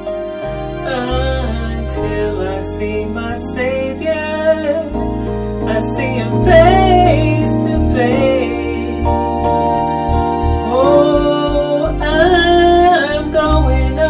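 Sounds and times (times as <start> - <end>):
instrumental accompaniment: 0.0 - 14.0
person singing slow gospel: 0.8 - 14.0.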